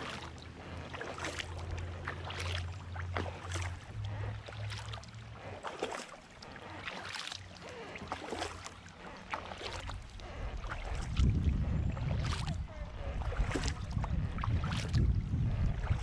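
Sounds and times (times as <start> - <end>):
water dripping off paddle: 0.0 - 12.6, 13.2 - 15.2
paddle splashing in water: 0.0 - 16.0.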